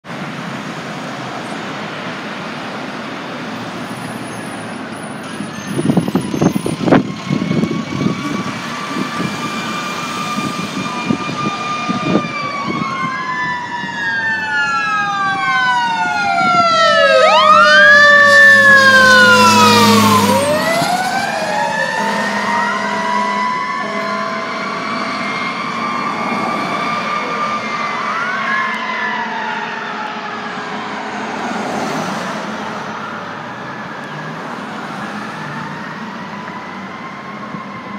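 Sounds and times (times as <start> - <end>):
road traffic: 0.0 - 37.9
fire engine siren wailing: 0.2 - 37.9.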